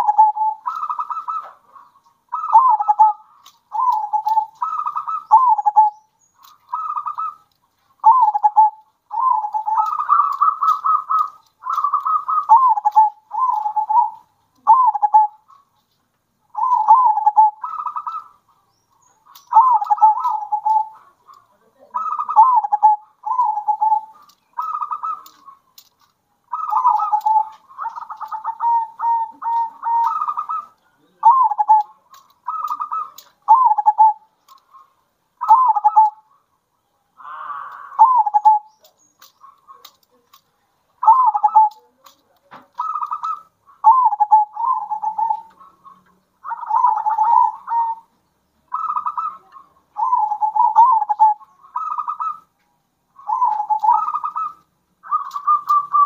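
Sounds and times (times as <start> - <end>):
doves cooing with rattling trills: 0.0 - 56.0.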